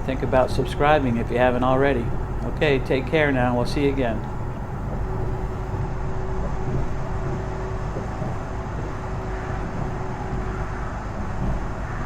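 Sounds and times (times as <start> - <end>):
truck engine and road noise: 0.0 - 11.8.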